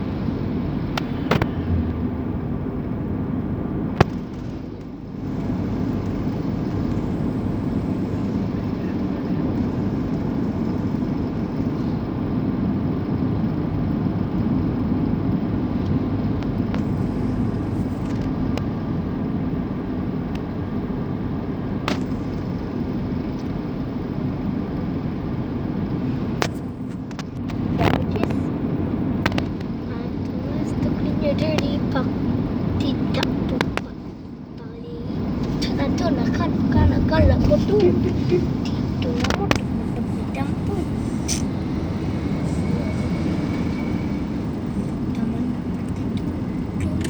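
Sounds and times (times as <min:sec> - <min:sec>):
vehicle driving on road: 0:00.0 - 0:47.0.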